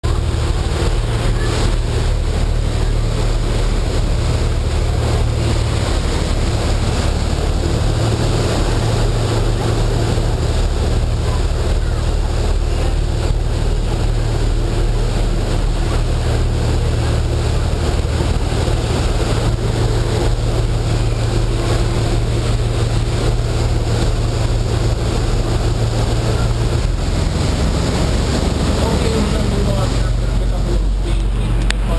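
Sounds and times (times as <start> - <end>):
boat engine drone: 0.0 - 31.9
wind and water noise: 0.0 - 31.9.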